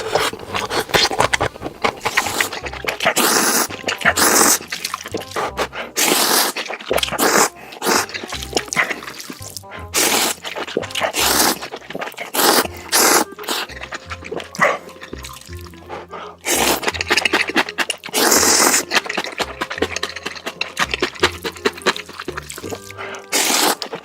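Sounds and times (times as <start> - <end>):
background music with steady beat: 0.0 - 24.0
person slurping noodles: 0.0 - 24.0.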